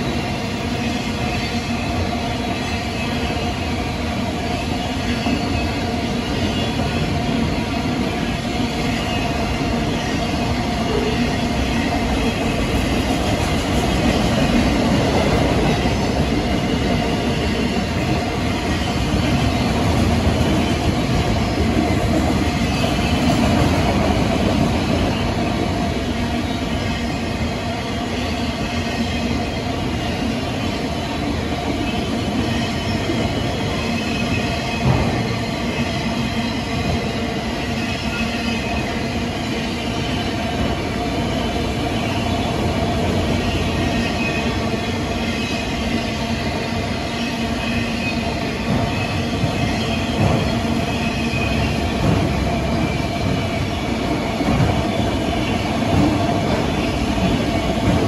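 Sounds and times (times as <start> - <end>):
train wheels rolling on track: 0.0 - 58.0.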